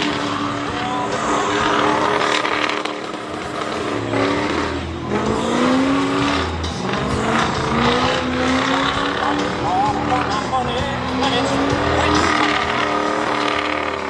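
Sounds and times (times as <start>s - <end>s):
tires spinning on pavement: 0.0s - 14.0s
truck engine revving: 0.0s - 14.0s.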